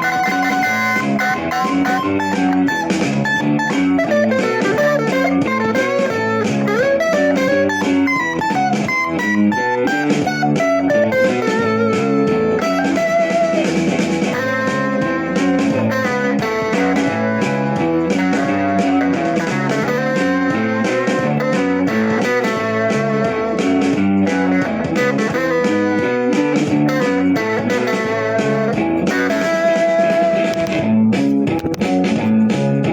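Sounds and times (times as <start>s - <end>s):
plucked guitar blues tune: 0.0s - 32.9s.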